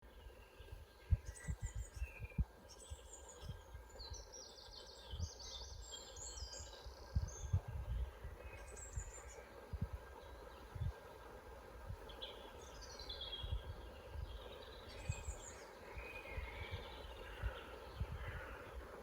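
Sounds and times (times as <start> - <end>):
birds chirping and singing: 0.2 - 9.5, 12.1 - 18.9.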